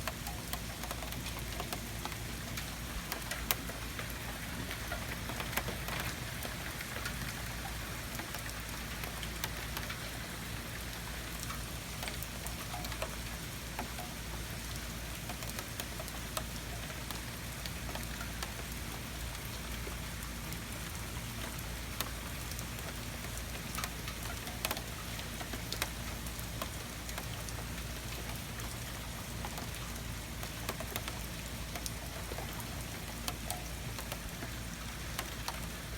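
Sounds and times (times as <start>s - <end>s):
raindrops ticking close by: 0.0s - 35.9s
heavy rain pouring: 0.1s - 35.9s.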